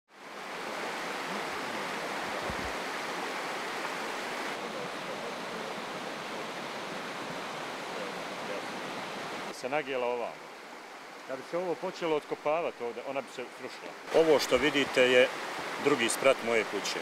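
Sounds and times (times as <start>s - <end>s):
rushing water: 0.1s - 17.0s.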